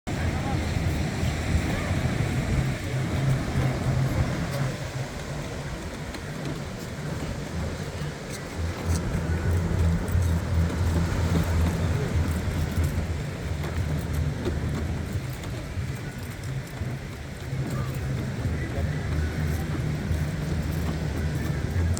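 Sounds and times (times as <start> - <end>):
wind rumbling on microphone: 0.0 - 21.9
sea surf washing: 0.1 - 21.9.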